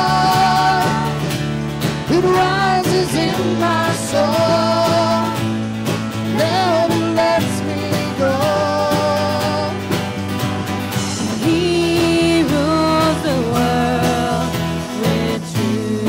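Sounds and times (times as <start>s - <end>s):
women singing: 0.0s - 1.5s, 2.1s - 5.6s, 6.3s - 9.9s, 11.3s - 16.0s
bass: 0.0s - 16.0s
drums: 0.0s - 16.0s
electric and acoustic guitars: 0.0s - 16.0s.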